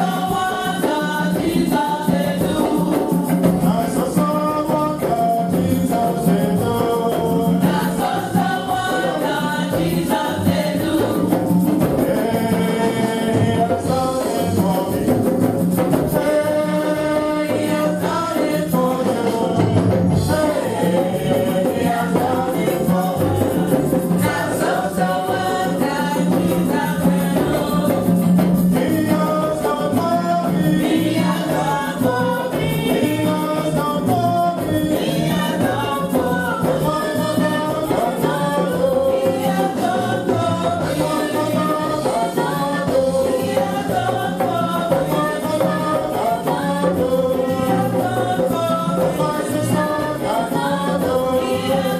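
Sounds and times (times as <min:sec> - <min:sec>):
congregation singing a hymn: 0:00.0 - 0:51.9
shakers or tambourines: 0:00.0 - 0:51.9.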